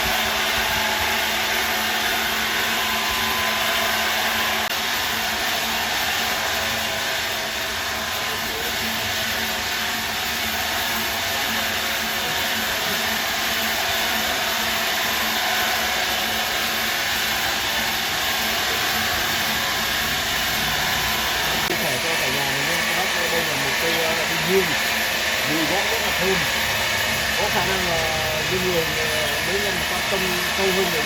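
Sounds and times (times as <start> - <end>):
woodworking machine whooshing: 0.0 - 31.0.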